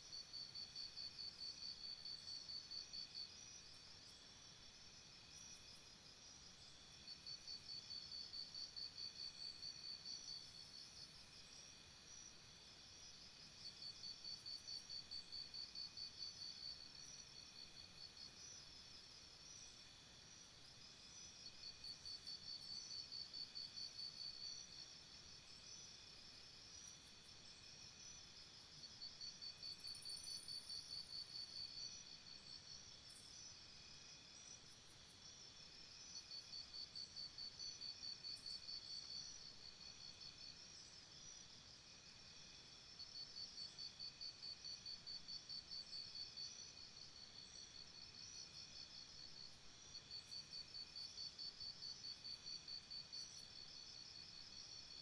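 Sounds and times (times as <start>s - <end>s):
high pulsing insect call: 0.0s - 55.0s
high-pitched insect chorus: 0.1s - 55.0s.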